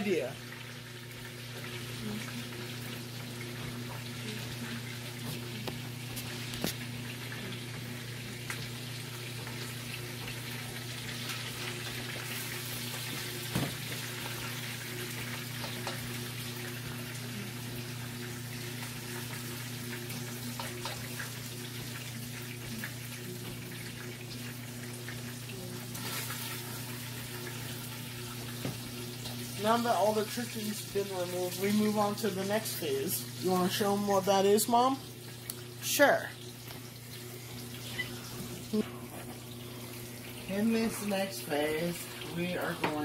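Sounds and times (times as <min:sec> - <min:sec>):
fat sizzling in a pot: 0:00.0 - 0:43.0.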